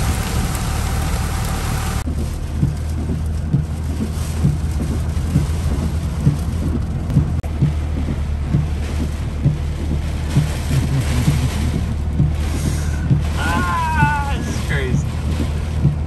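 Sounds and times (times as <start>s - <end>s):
heavy rain: 0.0s - 16.0s
windshield wipers thudding: 0.0s - 16.0s.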